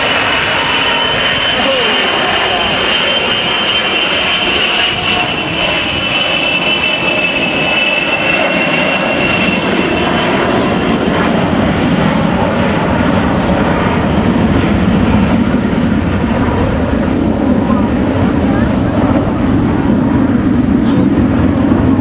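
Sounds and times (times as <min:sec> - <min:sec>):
deep jet rumble: 0:00.0 - 0:22.0
jet engine whine: 0:00.0 - 0:22.0.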